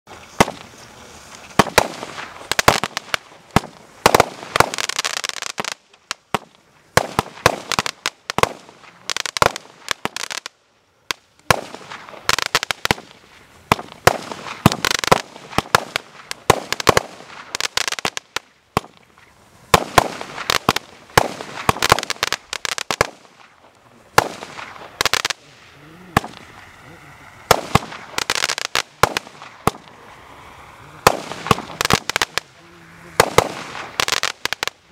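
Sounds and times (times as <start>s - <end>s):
firework pops: 0.1s - 10.5s, 11.1s - 25.4s, 26.2s - 26.8s, 27.5s - 30.0s, 31.0s - 32.5s, 33.2s - 34.9s
firework hiss: 0.1s - 34.9s.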